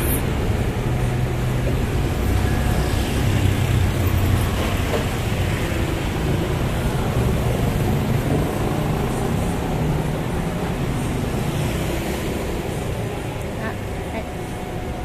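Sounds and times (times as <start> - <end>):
passing vehicle engines: 0.0 - 15.0
road noise hum: 0.0 - 15.0.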